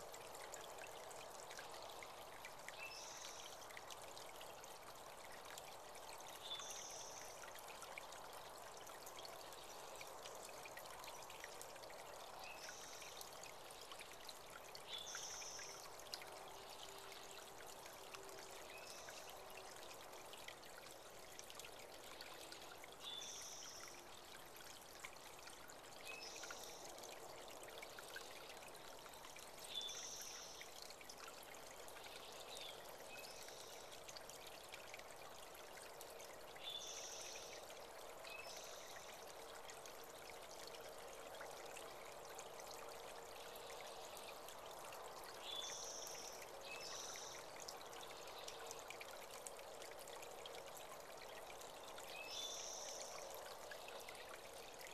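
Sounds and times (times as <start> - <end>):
creek trickling: 0.0 - 54.9.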